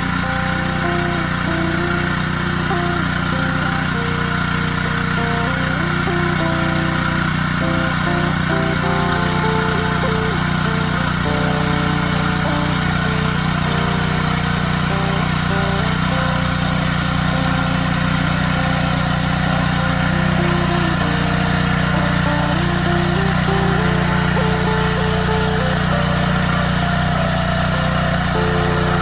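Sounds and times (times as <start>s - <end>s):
petrol engine running steadily: 0.0s - 29.0s.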